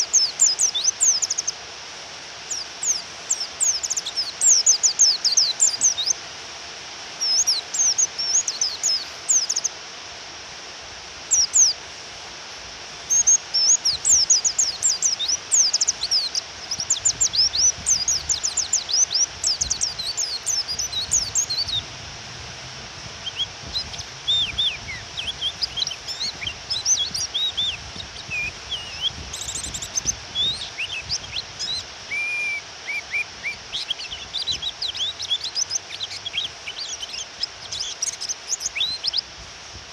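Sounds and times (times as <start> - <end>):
bird chirping: 0.0 - 1.6, 2.5 - 6.2, 7.2 - 9.7, 11.3 - 11.8, 13.1 - 21.9, 23.2 - 39.3
rain hiss: 0.0 - 39.9.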